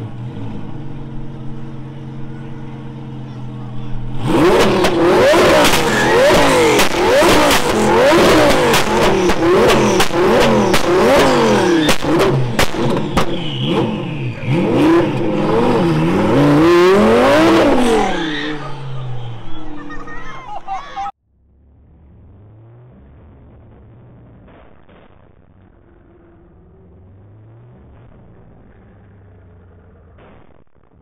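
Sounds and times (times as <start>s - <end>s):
car engine revving: 0.0s - 31.0s
sharp exhaust cracks: 0.7s - 19.5s, 22.0s - 31.0s.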